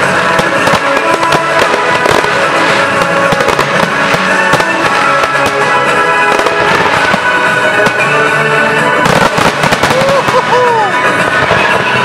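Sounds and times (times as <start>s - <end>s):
fireworks bangs: 0.0s - 12.0s
loud film score music: 0.0s - 12.0s.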